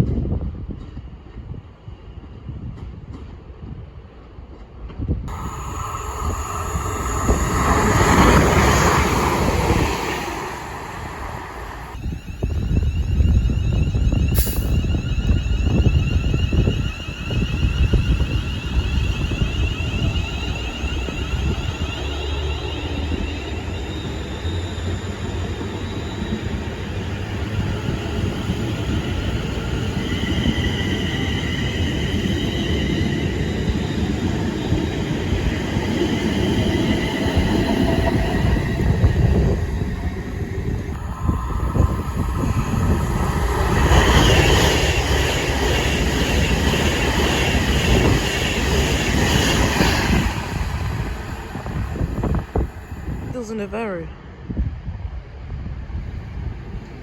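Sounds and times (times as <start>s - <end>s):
train wheels rumbling on track: 0.0s - 53.5s
high whining tones: 5.3s - 53.4s.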